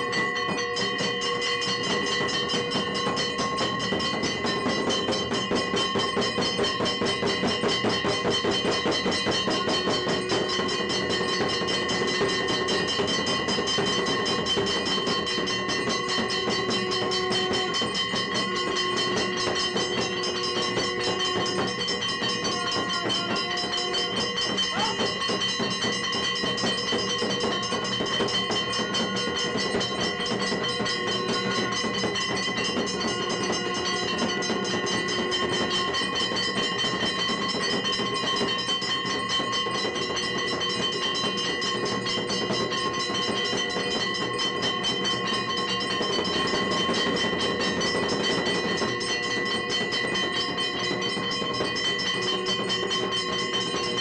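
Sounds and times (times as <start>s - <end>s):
ringing tones: 0.0s - 54.0s
temple bells clanging: 0.0s - 54.0s.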